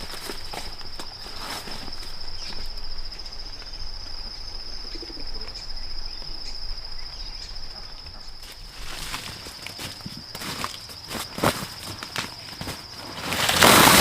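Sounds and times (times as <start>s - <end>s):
insect trilling: 0.0s - 14.0s.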